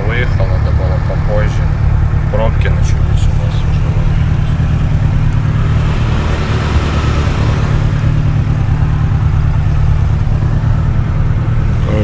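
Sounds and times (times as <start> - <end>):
car engine droning: 0.0 - 12.0
road noise hiss: 0.0 - 12.0.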